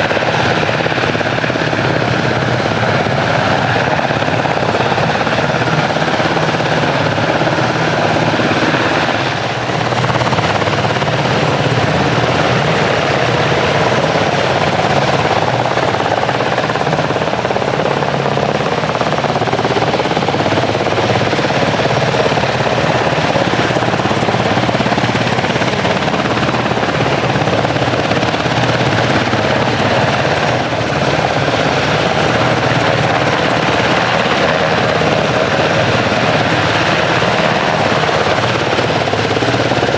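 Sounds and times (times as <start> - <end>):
helicopter rotor and turbine engines: 0.0 - 39.9.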